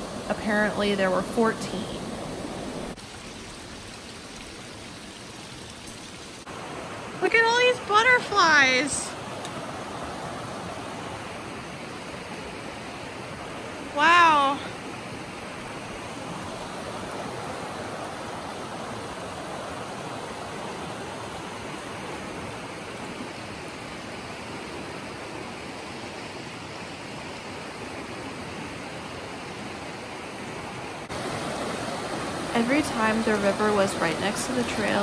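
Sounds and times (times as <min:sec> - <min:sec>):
river rushing over rapids: 0:00.0 - 0:35.0.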